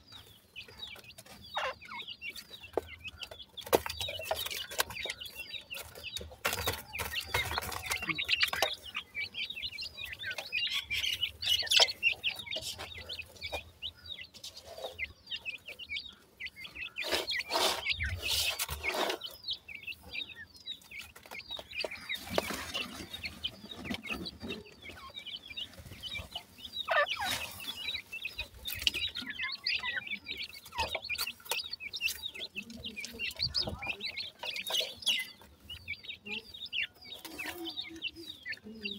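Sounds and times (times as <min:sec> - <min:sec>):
chicks chirping: 0:00.0 - 0:38.9.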